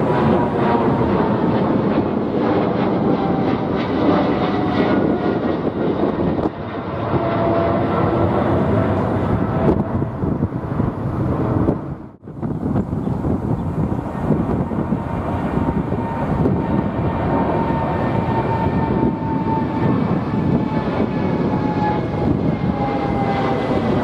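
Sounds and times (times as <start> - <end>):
faint jet whine: 0.0 - 24.0
jet roar overhead: 0.0 - 24.0.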